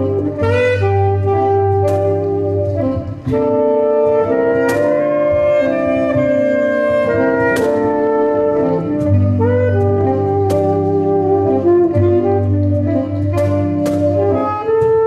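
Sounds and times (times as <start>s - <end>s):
held wind-instrument chords: 0.0s - 15.0s.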